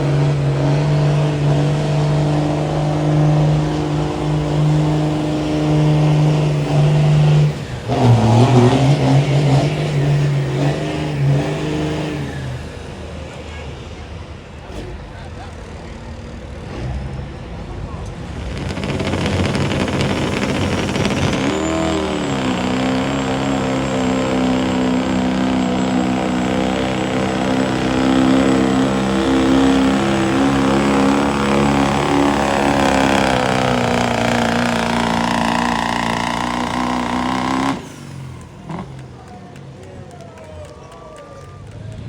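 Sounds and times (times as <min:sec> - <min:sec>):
engine at full throttle: 0:00.0 - 0:42.0.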